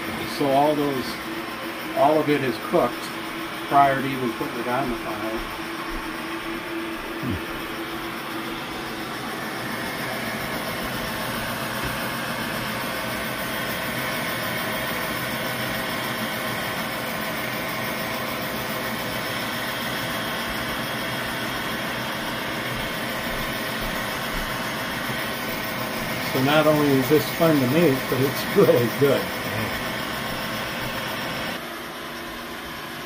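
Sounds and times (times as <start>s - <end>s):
hot-air gun fan motor humming: 0.0s - 33.0s.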